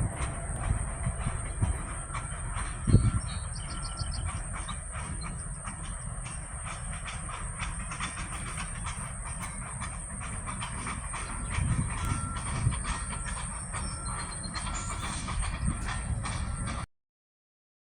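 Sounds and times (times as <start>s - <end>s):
freight train rumbling: 0.0s - 16.9s
wheels clicking over rail joints: 0.0s - 16.9s.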